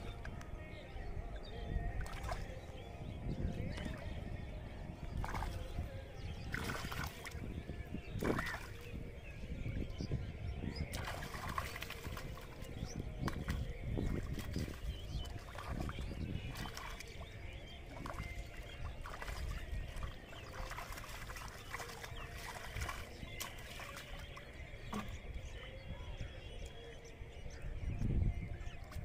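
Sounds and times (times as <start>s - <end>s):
water splashing in shallow water: 0.0s - 29.0s.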